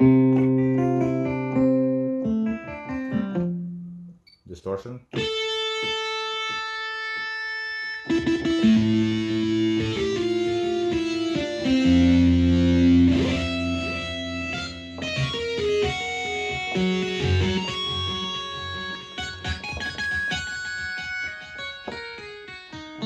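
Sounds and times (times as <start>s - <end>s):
distorted electric guitar synthesizer: 0.0s - 3.8s, 5.1s - 23.0s.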